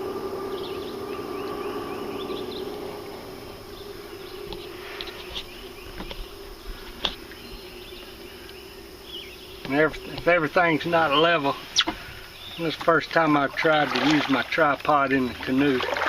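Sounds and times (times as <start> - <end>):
insect buzzing: 0.0 - 16.0.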